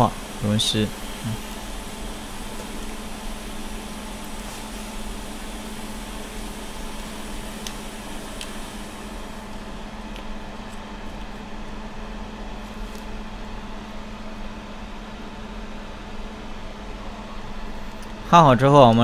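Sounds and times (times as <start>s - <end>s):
blower fan hum and air hiss: 0.0s - 19.0s.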